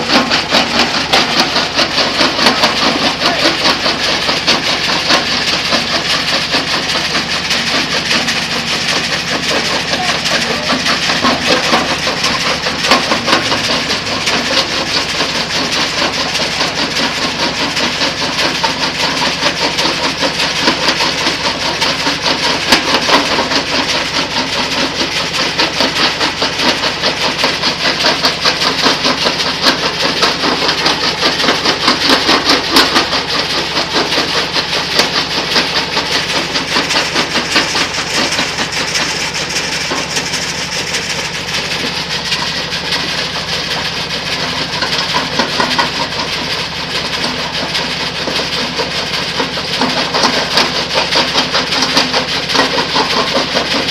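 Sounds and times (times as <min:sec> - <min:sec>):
machine drone: 0:00.0 - 0:53.9
stone rattling over metal chutes: 0:00.0 - 0:53.9.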